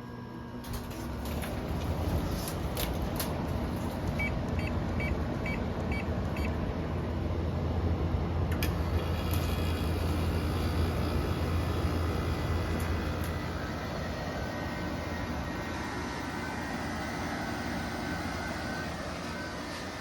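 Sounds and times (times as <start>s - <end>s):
constant low hum: 0.0s - 20.0s
fan motor whine: 0.0s - 20.0s.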